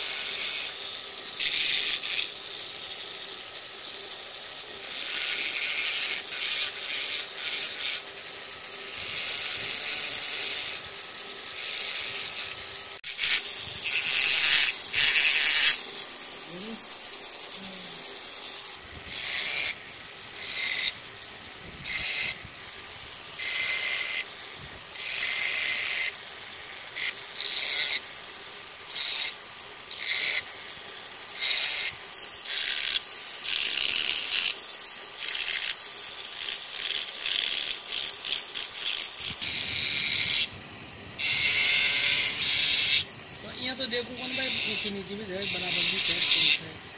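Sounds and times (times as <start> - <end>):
rotary tool grinding wood: 0.0 - 46.9.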